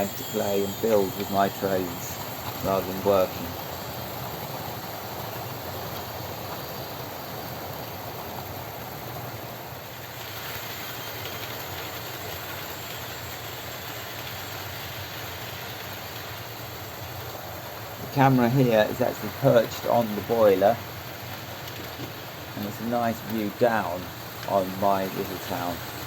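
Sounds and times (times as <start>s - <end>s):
model train motor whirring: 0.0s - 9.4s, 10.0s - 26.0s
wheels rolling on rails: 0.0s - 26.0s.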